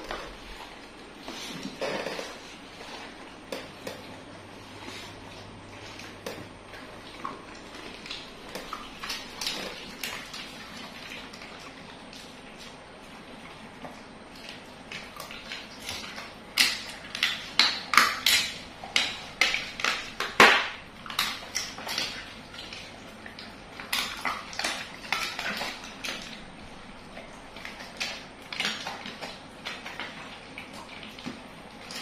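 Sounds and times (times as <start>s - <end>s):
dogs crunching bones: 0.0s - 32.0s.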